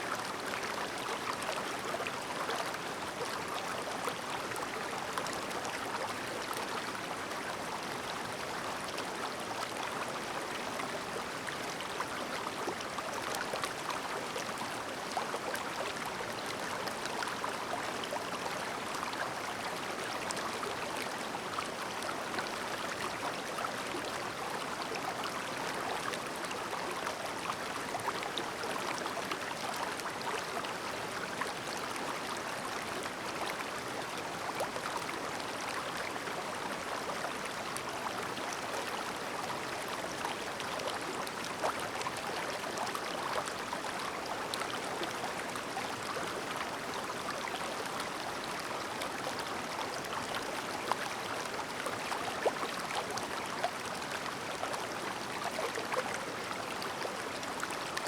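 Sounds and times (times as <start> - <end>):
mountain stream babbling: 0.0 - 58.0.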